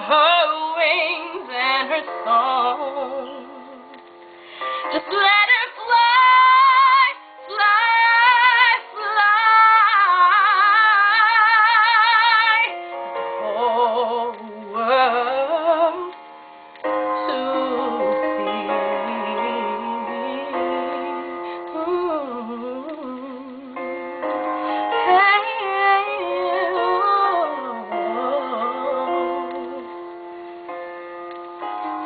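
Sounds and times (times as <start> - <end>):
woman singing with vibrato: 0.0 - 4.0, 4.8 - 12.7, 13.4 - 16.2, 17.2 - 23.9, 24.6 - 30.1
karaoke instrumental backing: 0.0 - 32.0.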